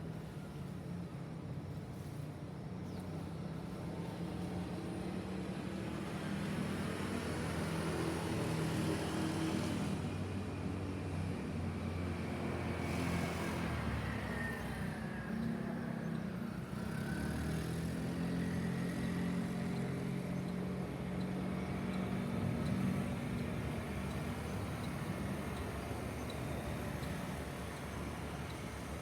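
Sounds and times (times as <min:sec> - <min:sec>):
vehicles passing: 0:04.1 - 0:29.0.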